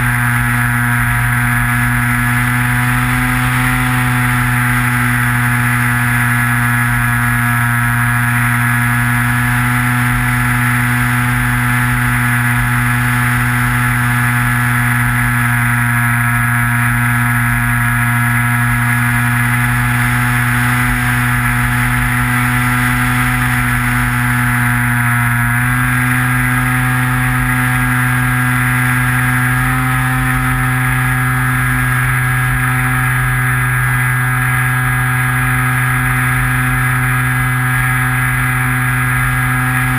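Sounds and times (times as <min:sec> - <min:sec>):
model plane motor drone: 0:00.0 - 0:39.9.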